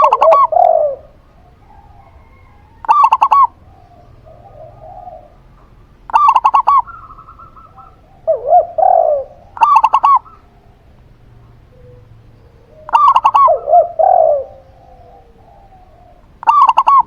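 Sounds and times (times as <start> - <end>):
doves cooing: 0.0 - 17.0.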